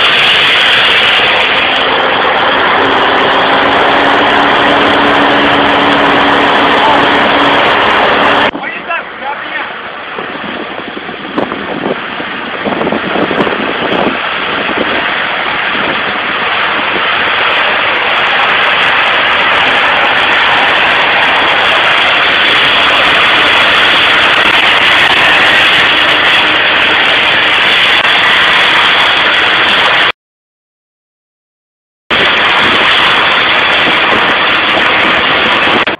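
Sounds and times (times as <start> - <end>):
water jet spray hissing: 0.0 - 8.5, 11.6 - 30.1, 32.2 - 35.9.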